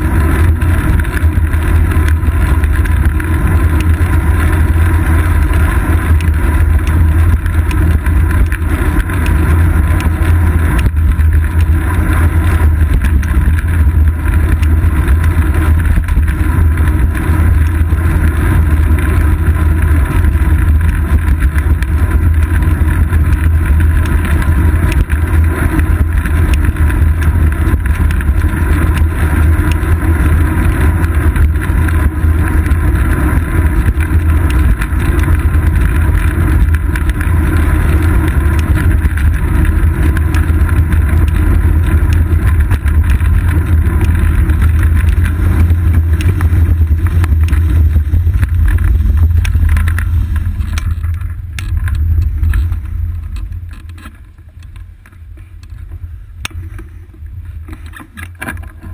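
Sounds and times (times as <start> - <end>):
road vibration rumble: 0.0 - 58.9.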